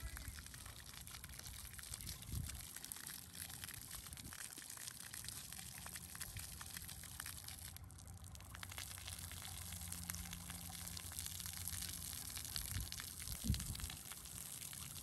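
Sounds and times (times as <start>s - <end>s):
fountain jets spraying: 0.0s - 15.0s
water pattering on concrete: 0.0s - 15.0s.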